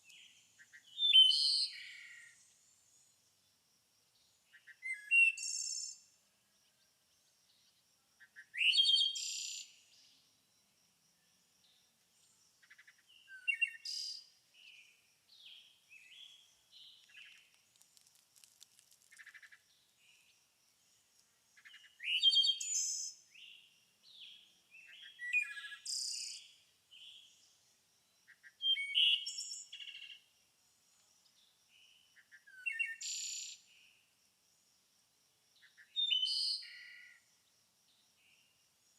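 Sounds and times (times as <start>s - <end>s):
songbirds chirping: 0.0s - 34.7s.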